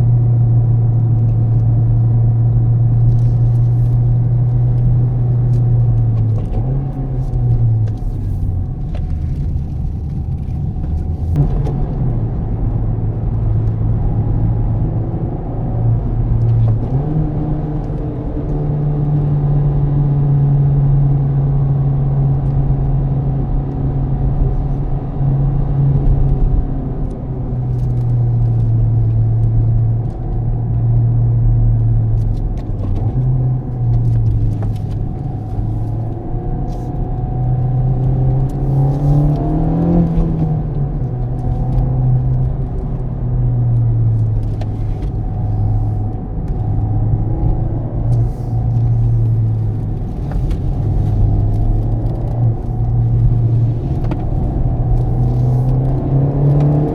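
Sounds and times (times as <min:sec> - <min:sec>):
car engine drone: 0:00.0 - 0:56.9
road noise: 0:00.0 - 0:56.9.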